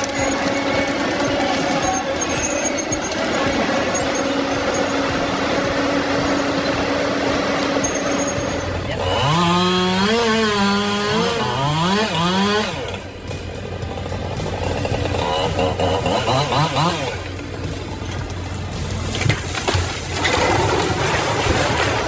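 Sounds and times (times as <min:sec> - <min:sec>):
chainsaw engine revving: 0:00.0 - 0:22.0
steady machine noise: 0:00.0 - 0:22.0.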